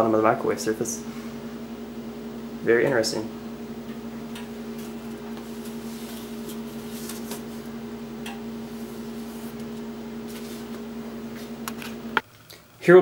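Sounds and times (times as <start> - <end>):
electrical hum: 0.0 - 12.2.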